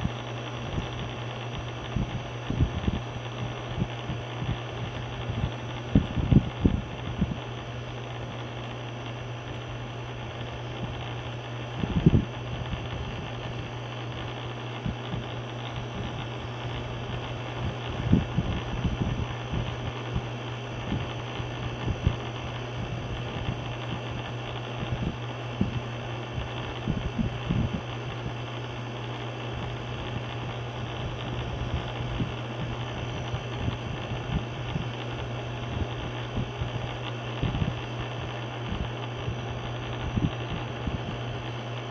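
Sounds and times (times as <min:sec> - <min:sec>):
fan and air conditioner hum: 0:00.0 - 0:41.9.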